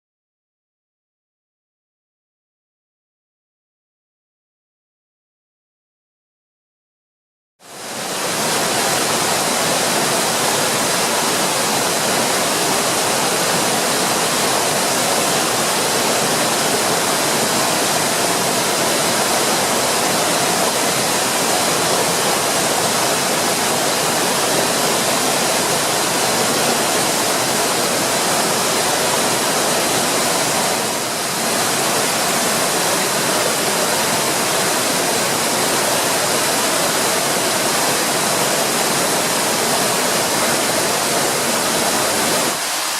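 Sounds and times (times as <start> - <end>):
waterfall pounding into pool: 7.7 - 42.9.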